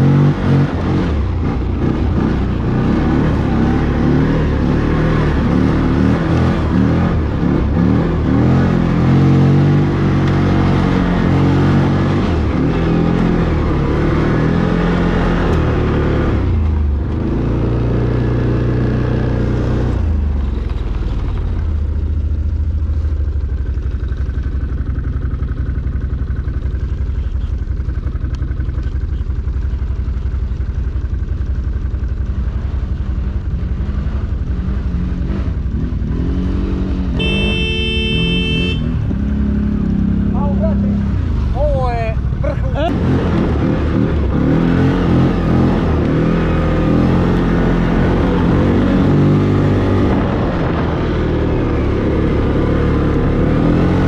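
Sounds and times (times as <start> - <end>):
atv engine revving and idling: 0.0 - 54.0.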